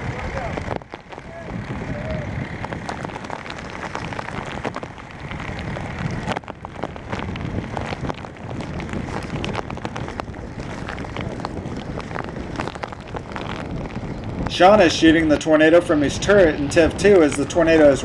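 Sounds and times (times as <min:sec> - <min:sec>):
debris ticking: 0:00.0 - 0:18.0
strong wind buffeting microphone: 0:00.0 - 0:18.0.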